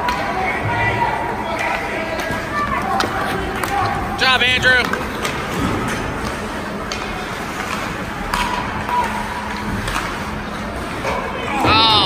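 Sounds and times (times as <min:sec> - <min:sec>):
hockey sticks and puck clacking: 0:00.0 - 0:11.4
spectators' voices: 0:00.0 - 0:12.0
skates on ice: 0:01.5 - 0:11.2.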